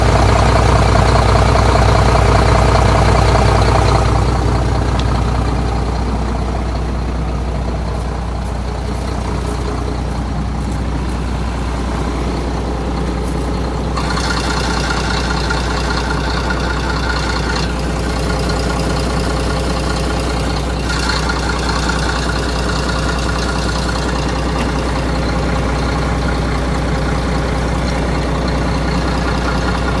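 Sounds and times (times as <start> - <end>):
truck diesel engine idling: 0.0 - 30.0.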